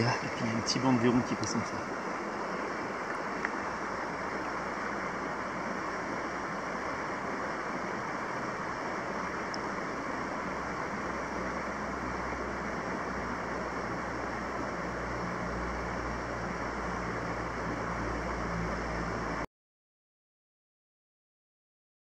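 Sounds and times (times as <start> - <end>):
flowing river water: 0.0 - 19.5.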